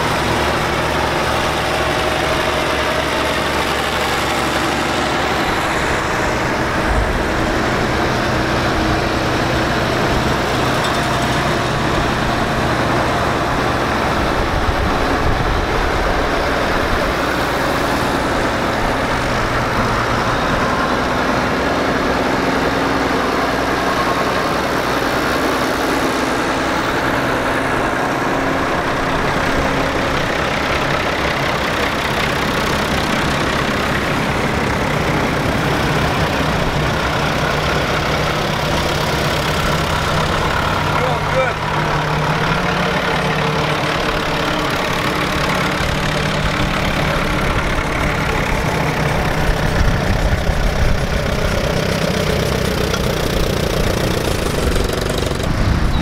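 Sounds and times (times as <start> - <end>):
tractor engines driving past: 0.0 - 56.0.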